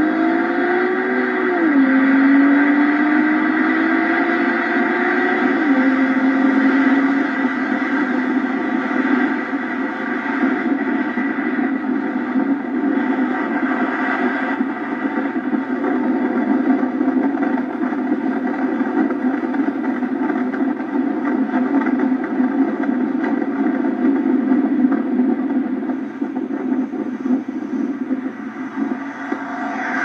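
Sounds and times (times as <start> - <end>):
car engine running: 0.0 - 30.0
wind and road noise: 0.0 - 30.0.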